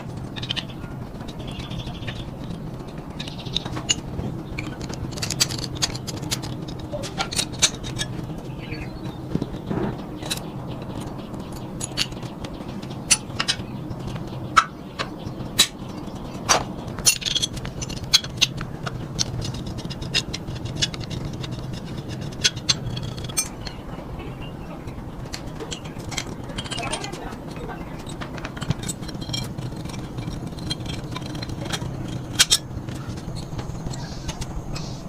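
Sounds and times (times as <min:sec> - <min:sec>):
low steady hum: 0:00.0 - 0:35.0
metal clicks and scrapes: 0:00.0 - 0:35.0.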